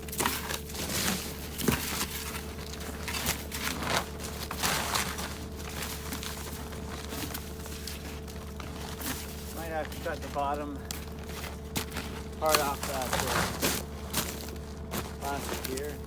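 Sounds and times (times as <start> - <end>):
plastic sheeting crinkling: 0.0 - 16.0
steady low hum: 0.0 - 16.0.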